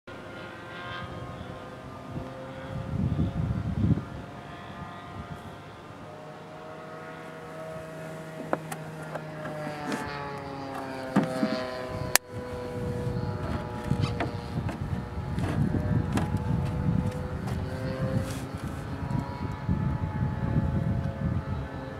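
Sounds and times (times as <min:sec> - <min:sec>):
model airplane motor droning: 0:00.1 - 0:21.9.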